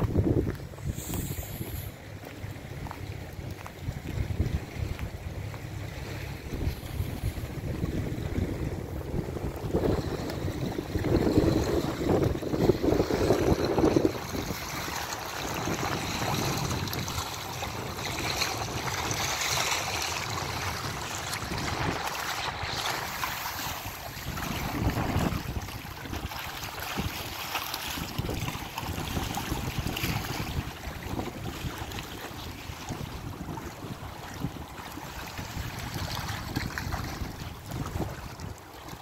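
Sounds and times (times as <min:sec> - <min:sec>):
river water washing against rocks: 0:00.0 - 0:39.0
wind buffeting microphone: 0:00.0 - 0:39.0.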